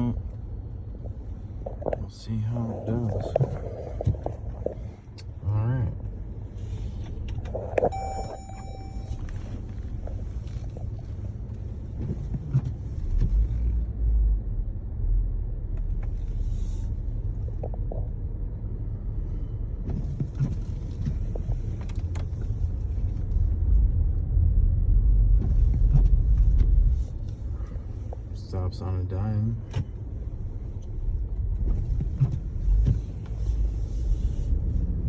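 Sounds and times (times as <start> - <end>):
road and tyre rumble: 0.0 - 35.0.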